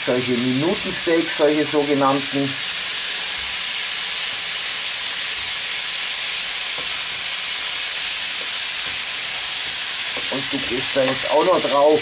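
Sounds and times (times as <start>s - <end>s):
mushrooms frying in pan: 0.0s - 12.0s
steaks sizzling on grill: 0.0s - 12.0s.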